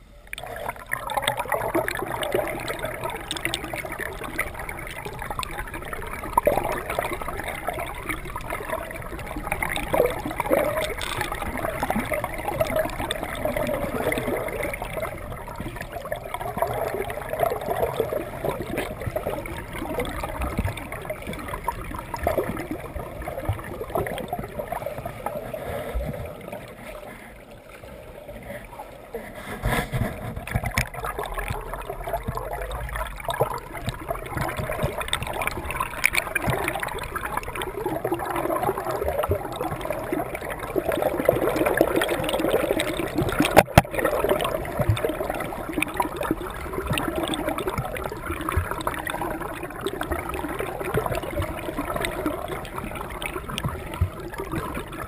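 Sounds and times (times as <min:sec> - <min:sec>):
underwater churning and gurgling: 0:00.0 - 0:55.0.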